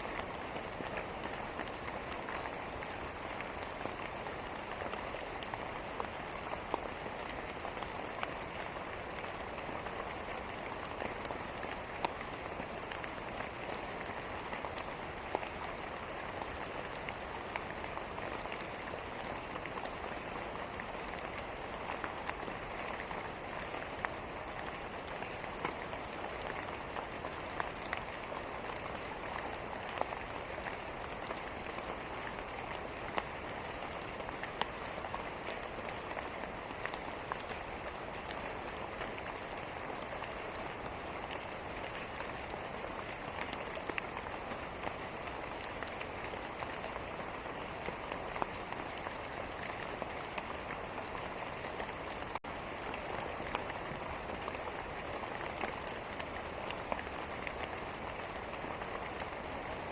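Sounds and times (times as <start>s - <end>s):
raindrops striking surface: 0.0s - 59.9s
steady rain hiss: 0.0s - 59.9s.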